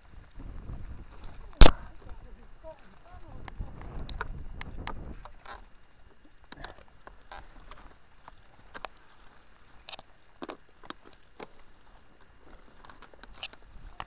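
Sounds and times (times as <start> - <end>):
bike rattling over rough track: 0.0 - 14.0.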